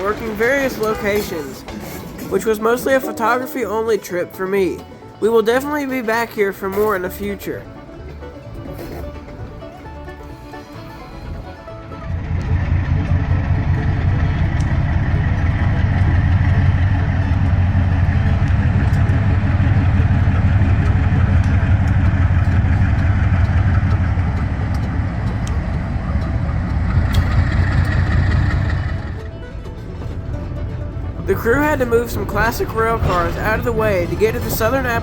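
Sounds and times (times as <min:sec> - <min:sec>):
locomotive diesel engine running: 0:00.0 - 0:35.0.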